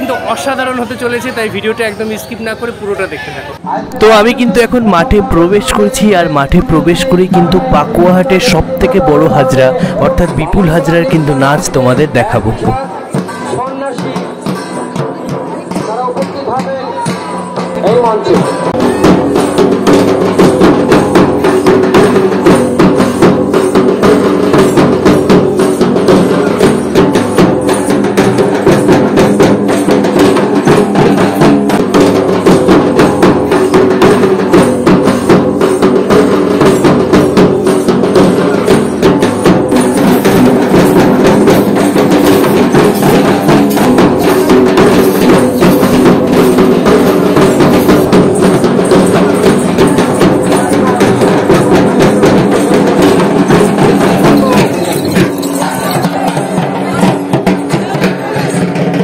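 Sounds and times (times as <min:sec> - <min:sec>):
loud rapid drumming: 0:03.9 - 0:59.0.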